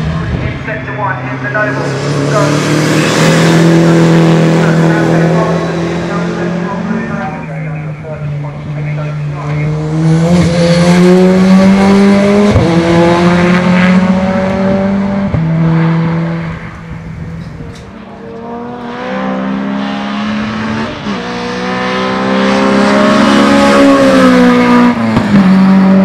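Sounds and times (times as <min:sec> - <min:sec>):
racing car engines at full throttle: 0:00.0 - 0:26.0.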